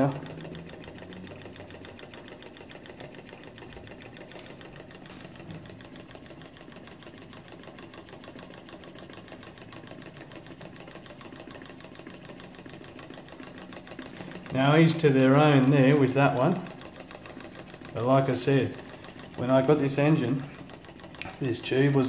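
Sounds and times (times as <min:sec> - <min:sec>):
small engine ticking: 0:00.0 - 0:22.0.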